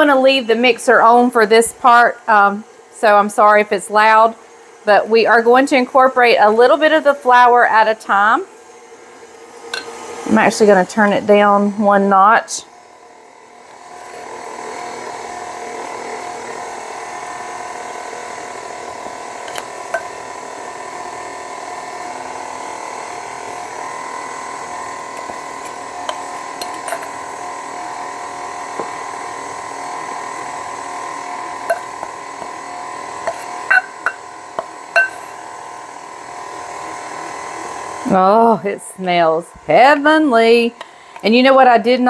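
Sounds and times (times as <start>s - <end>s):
stand mixer motor whine: 0.0s - 42.0s.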